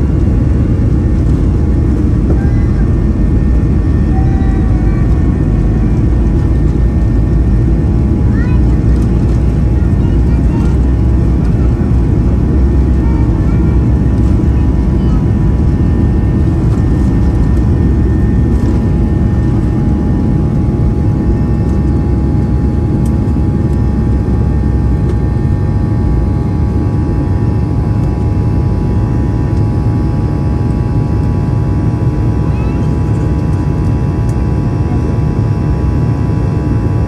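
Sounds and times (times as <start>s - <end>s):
cabin engine rumble: 0.0s - 37.0s.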